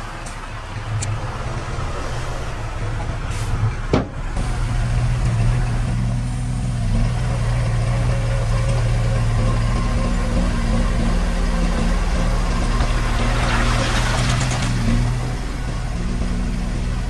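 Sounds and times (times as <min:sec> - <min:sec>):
diesel engine humming: 0:00.0 - 0:17.0.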